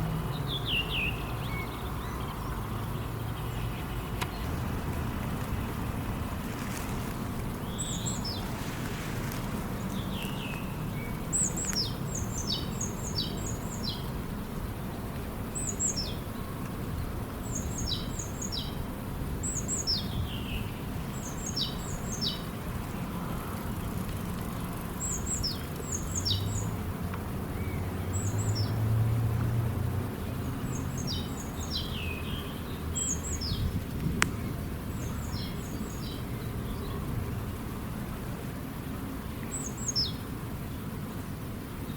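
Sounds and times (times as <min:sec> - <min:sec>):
low rush of background noise: 0:00.0 - 0:41.9
songbird singing: 0:00.0 - 0:41.9.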